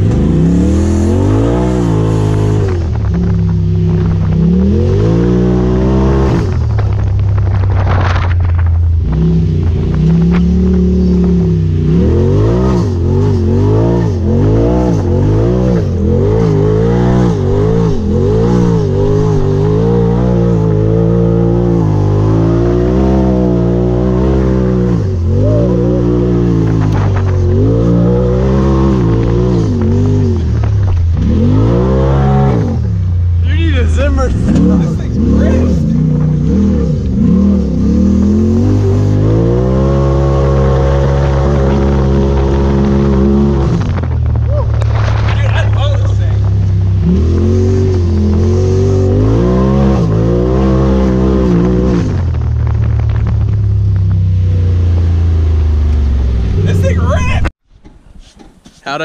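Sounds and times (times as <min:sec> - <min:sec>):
engine revving through mud: 0:00.0 - 0:57.1.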